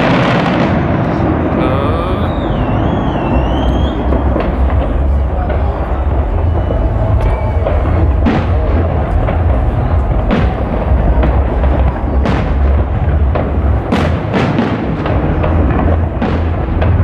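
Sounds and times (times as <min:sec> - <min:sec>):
fireworks bursting with sharp bangs: 0:00.0 - 0:17.0
steady low rumble: 0:00.0 - 0:17.0.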